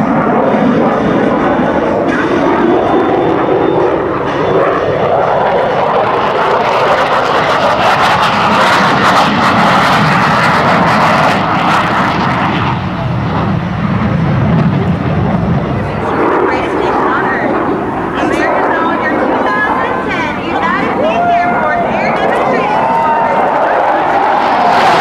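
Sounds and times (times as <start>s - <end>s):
jet flying past: 0.0s - 25.0s.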